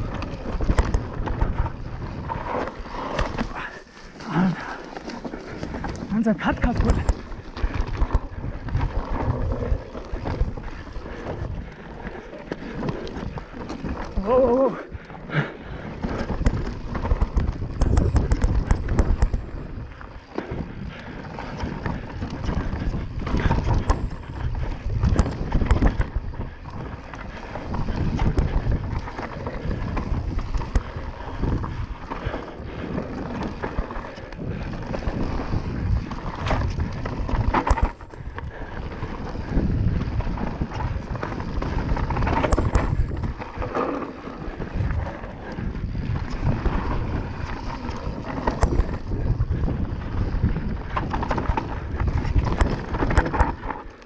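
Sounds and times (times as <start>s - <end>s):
bike clattering and rattling: 0.0s - 54.0s
tyres rolling over dirt: 0.0s - 54.0s
wind buffeting microphone: 0.0s - 54.0s.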